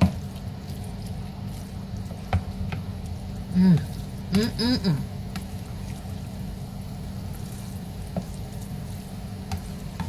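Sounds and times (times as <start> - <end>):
steady low hum: 0.2 - 10.0.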